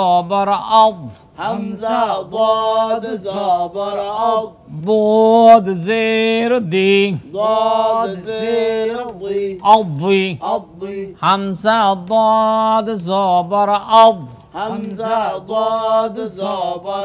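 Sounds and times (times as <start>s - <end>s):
man chanting recitation: 0.0s - 17.0s.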